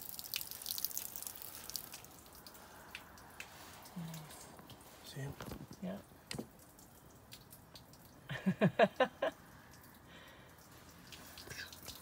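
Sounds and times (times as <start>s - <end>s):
water dripping: 0.0s - 12.0s.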